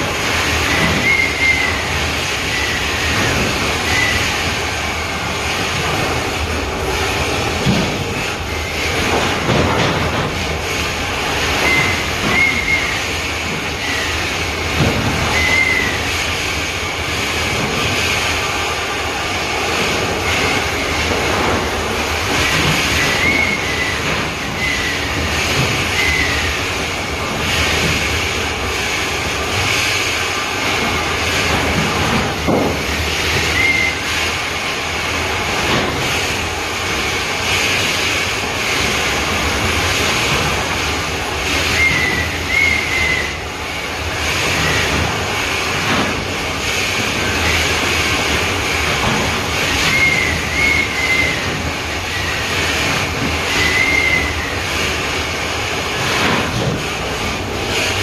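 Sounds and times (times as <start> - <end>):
machinery roaring with hiss: 0.0 - 58.0.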